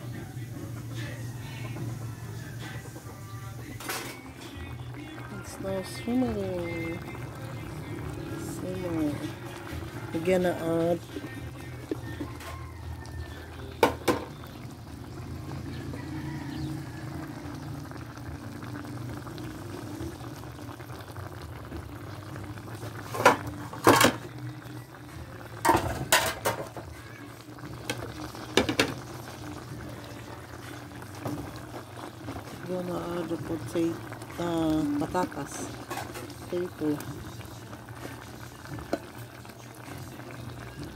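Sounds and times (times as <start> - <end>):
curry bubbling in a pot: 4.4 - 40.9.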